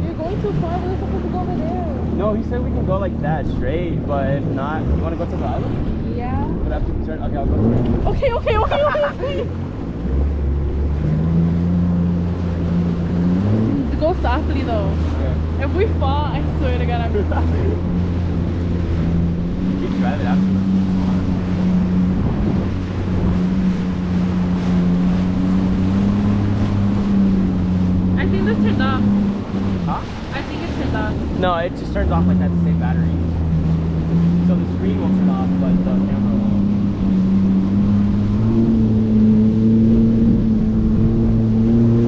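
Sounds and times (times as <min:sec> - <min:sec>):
motorboat engine humming: 0:00.0 - 0:42.0
water noise: 0:00.0 - 0:42.0
wind: 0:00.0 - 0:42.0.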